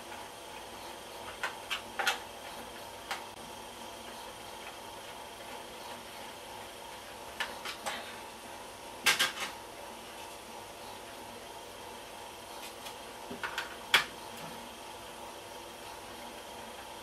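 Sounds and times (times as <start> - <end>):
faint background hum: 0.0 - 17.0.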